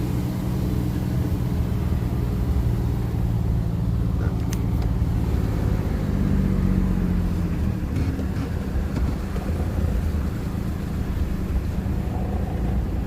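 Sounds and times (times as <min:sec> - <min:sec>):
engine idling rumble: 0:00.0 - 0:13.0.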